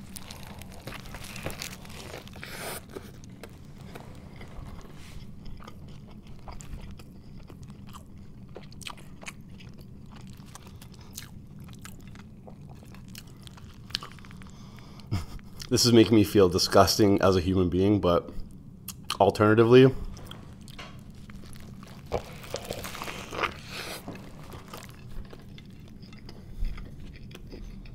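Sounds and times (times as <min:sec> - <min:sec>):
chewing with crunches: 0:00.0 - 0:15.8, 0:20.0 - 0:27.9.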